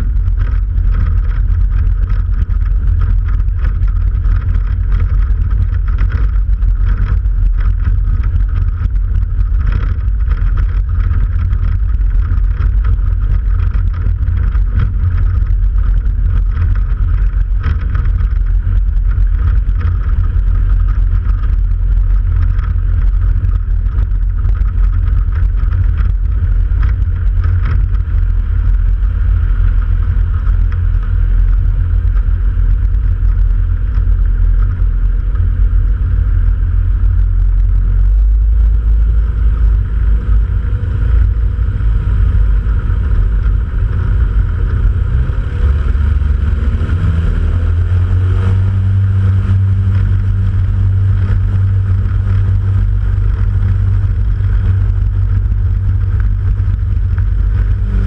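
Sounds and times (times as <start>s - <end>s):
light aircraft engine running: 0.0s - 58.0s
wind buffeting microphone: 0.0s - 58.0s.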